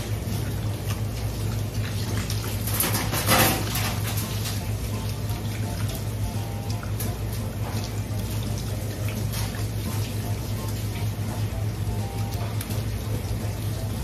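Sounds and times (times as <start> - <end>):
water running from a hose: 0.0 - 14.0.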